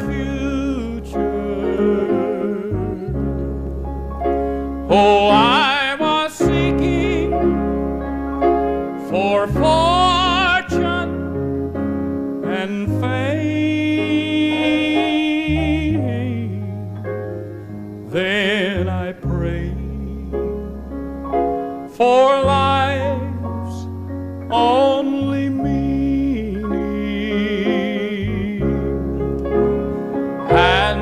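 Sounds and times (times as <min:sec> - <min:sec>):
man singing gospel: 0:00.0 - 0:03.4, 0:04.6 - 0:08.1, 0:08.9 - 0:11.4, 0:12.4 - 0:17.0, 0:18.0 - 0:20.8, 0:21.7 - 0:23.9, 0:24.5 - 0:31.0
instrumental accompaniment: 0:00.0 - 0:31.0.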